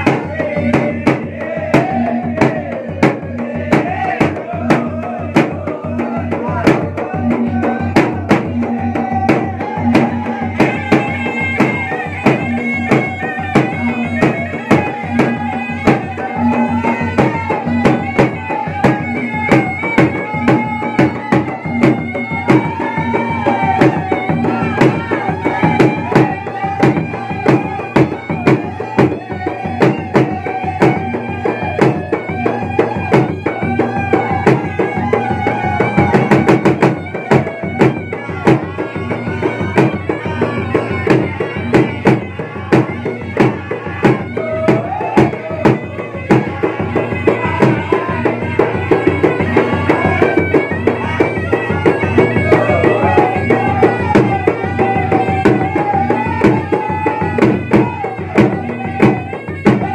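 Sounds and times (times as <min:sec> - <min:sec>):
barrel drums beaten fast: 0:00.0 - 0:59.9
reedy pipe melody: 0:10.0 - 0:59.9.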